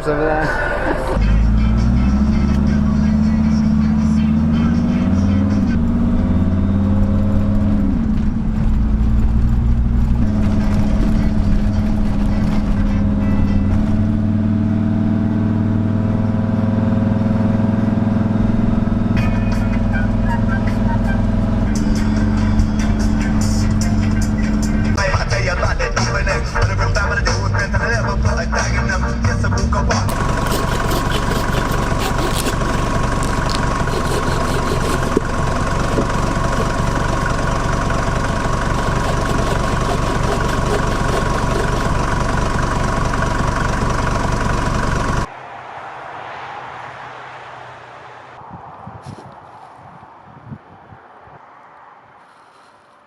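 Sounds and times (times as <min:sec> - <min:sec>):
van engine droning: 0:00.0 - 0:48.5.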